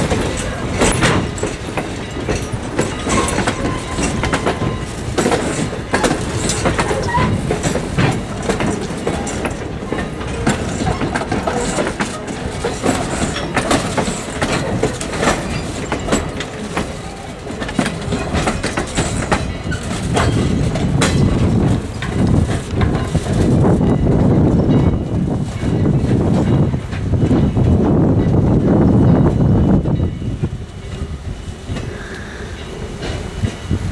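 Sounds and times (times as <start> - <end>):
train rumble: 0.0 - 33.9
train wheels clattering over rail joints: 0.0 - 33.9.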